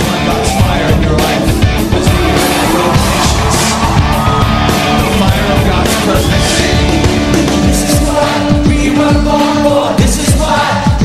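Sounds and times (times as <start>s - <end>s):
worship band playing: 0.0s - 11.0s
congregation singing along: 1.3s - 11.0s.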